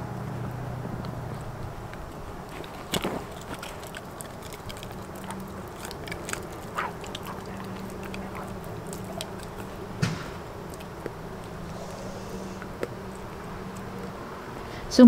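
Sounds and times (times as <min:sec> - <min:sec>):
dog chewing crunching bites: 0:00.0 - 0:14.8.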